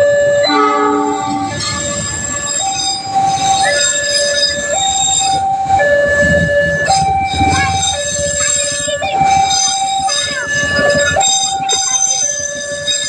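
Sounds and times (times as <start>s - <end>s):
level-crossing two-tone siren: 0.0s - 13.0s.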